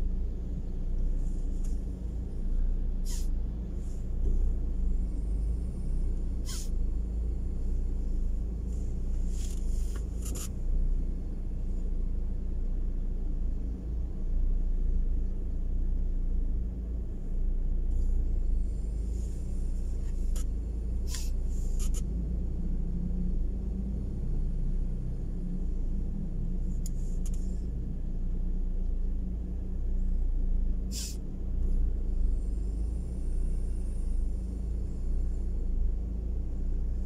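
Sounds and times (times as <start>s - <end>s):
car engine idling: 0.0s - 37.0s
faint steady hum: 0.0s - 37.0s.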